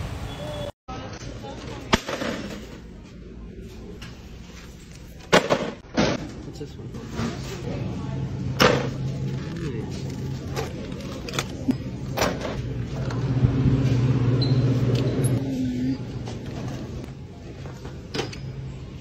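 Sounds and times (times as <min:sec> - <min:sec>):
refrigerator hum: 0:02.6 - 0:19.0.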